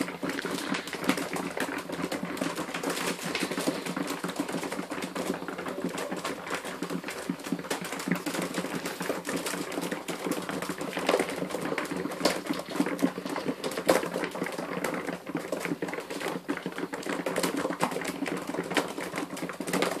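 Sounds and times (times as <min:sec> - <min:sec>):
pigeons pecking seed: 0:00.0 - 0:20.0.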